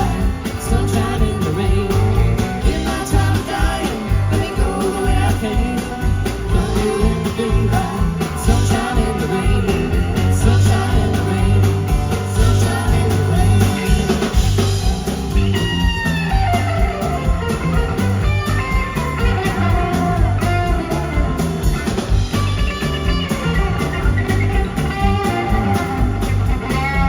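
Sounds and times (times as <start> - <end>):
country-rock band playing: 0.0 - 27.0
sliding bent guitar notes: 0.0 - 27.0.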